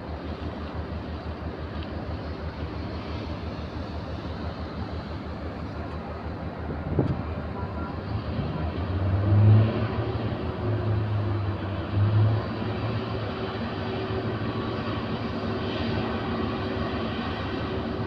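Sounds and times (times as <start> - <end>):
ship engines rumbling: 0.0 - 18.0.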